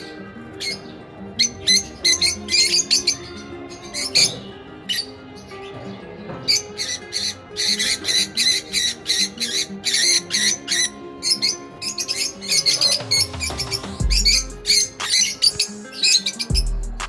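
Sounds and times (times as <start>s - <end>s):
background music with sustained notes: 0.0s - 17.0s
lovebirds squawking: 0.0s - 17.0s.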